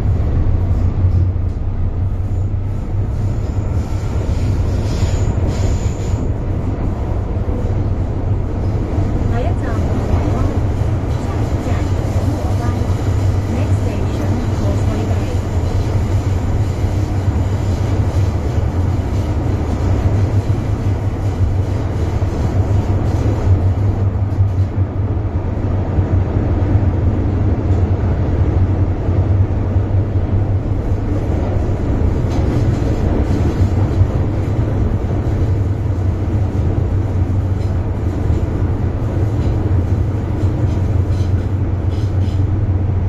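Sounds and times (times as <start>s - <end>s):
subway car rumbling at speed: 0.0s - 43.0s.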